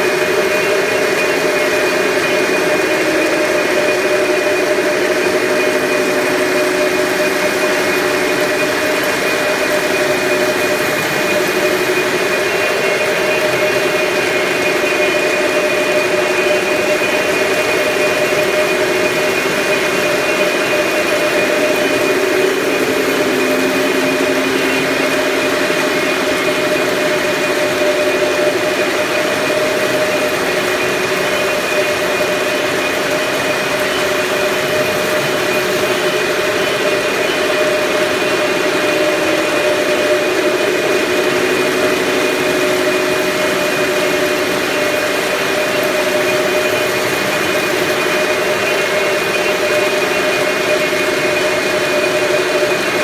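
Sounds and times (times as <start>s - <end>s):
mechanical drone: 0.0s - 53.0s
held wavering tones: 1.5s - 47.3s.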